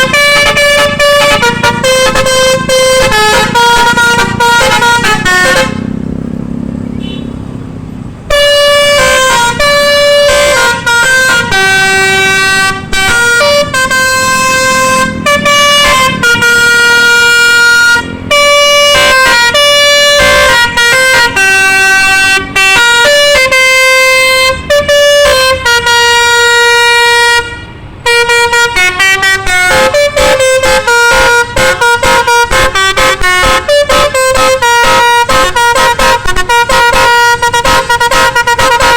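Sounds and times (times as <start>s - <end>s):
multi-tone air horn playing a tune: 0.0s - 5.9s, 8.3s - 38.9s.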